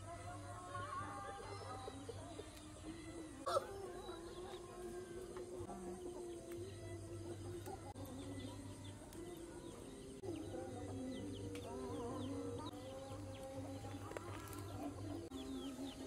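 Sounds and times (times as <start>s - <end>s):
small birds chirping: 0.0s - 16.0s
chickens clucking: 1.0s - 16.0s.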